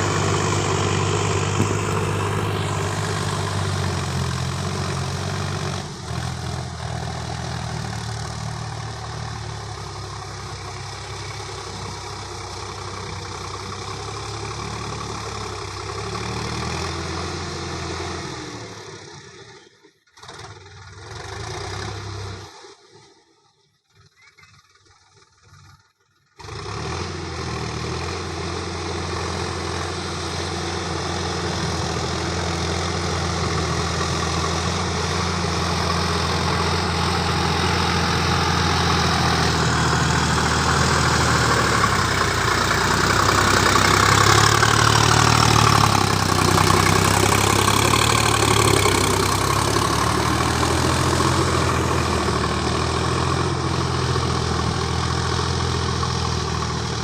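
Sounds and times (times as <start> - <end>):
tractor diesel engine running: 0.0 - 19.2, 24.7 - 57.0.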